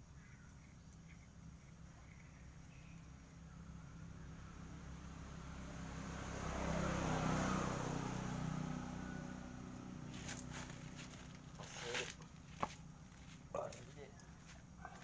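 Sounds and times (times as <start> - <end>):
low engine hum: 0.0 - 15.0
motor vehicle passing: 1.1 - 15.0.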